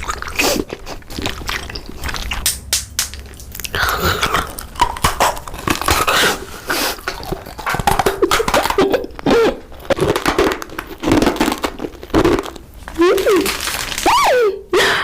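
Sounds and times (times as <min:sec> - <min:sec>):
chewing and crunching food: 0:00.0 - 0:14.2
throaty sounds: 0:00.0 - 0:15.0.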